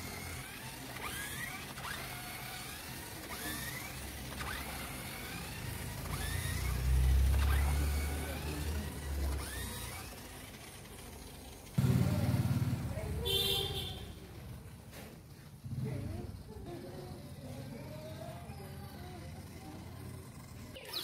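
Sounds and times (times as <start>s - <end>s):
toy car motor whining: 0.0s - 11.8s, 15.6s - 21.0s.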